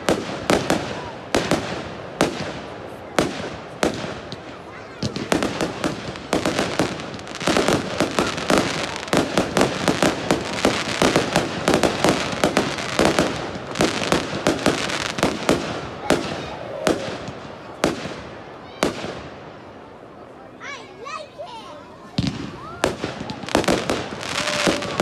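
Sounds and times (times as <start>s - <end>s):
fireworks bursting with sharp bangs: 0.0s - 20.1s, 22.0s - 25.0s.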